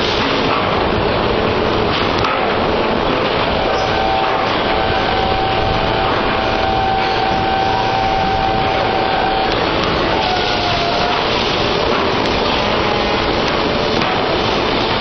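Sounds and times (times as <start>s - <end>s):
brick stacking machine running: 0.0s - 15.0s
steady whine: 0.0s - 15.0s.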